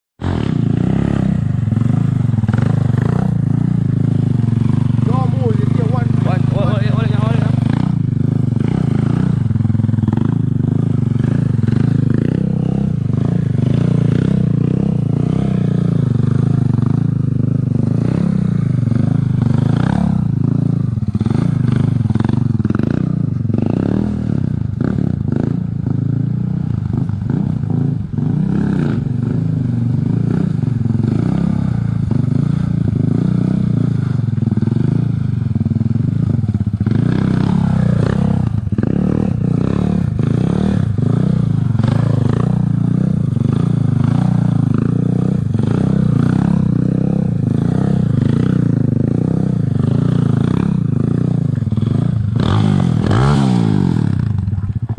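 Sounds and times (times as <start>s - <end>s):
motorcycle engine revving: 0.2s - 54.9s.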